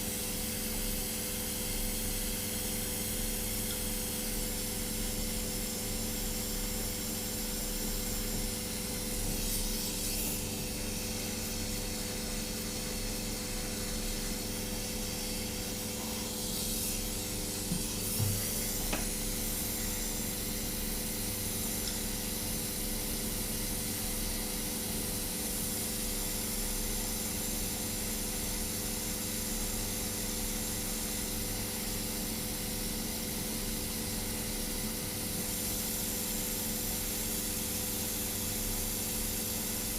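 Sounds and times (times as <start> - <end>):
electrical hum: 0.0 - 37.9
soldering torch hissing: 0.3 - 39.9.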